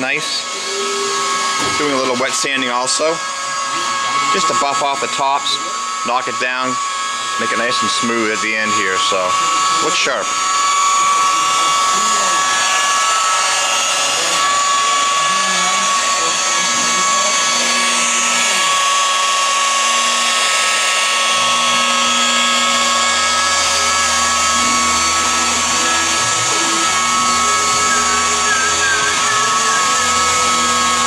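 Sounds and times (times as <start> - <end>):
electric buffer motor whine: 0.0 - 31.0.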